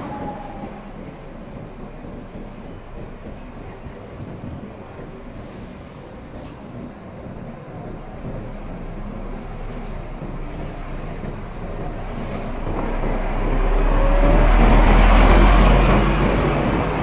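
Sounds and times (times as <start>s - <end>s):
coach engine rumble: 0.0s - 17.0s
road noise: 0.0s - 17.0s.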